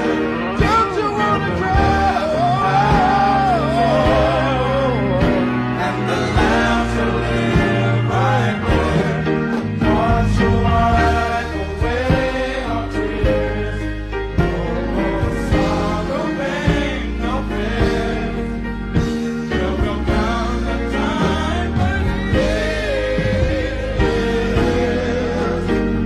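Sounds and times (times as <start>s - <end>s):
band bass and beat: 0.0s - 26.0s
gospel singing: 0.0s - 26.0s.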